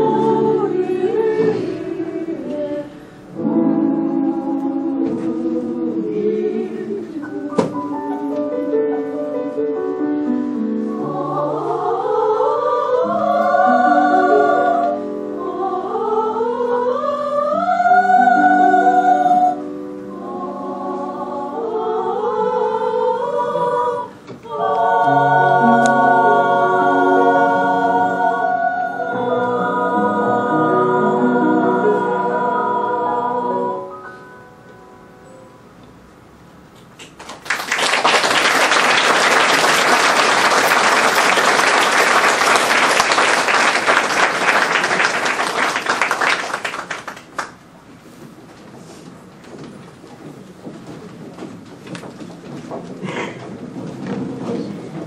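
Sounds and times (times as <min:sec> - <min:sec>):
women's choir singing: 0:00.0 - 0:34.7, 0:37.6 - 0:47.4.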